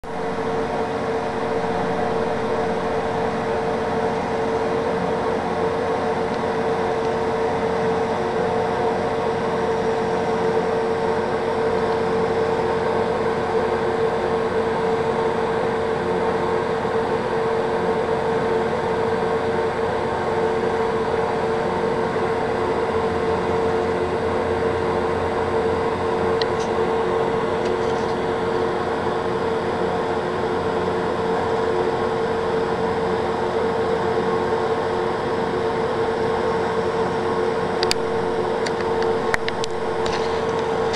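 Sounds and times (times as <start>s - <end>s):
aquarium pumps humming: 0.0s - 40.9s.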